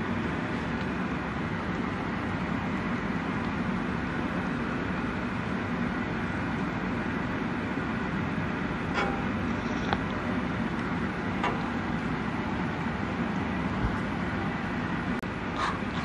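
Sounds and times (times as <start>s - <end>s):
low rushing kitchen noise: 0.0s - 16.0s.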